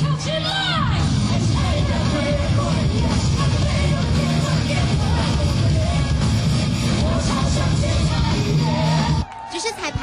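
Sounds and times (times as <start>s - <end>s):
live pop-rock band: 0.0s - 9.2s
woman singing lead vocal: 0.0s - 9.3s.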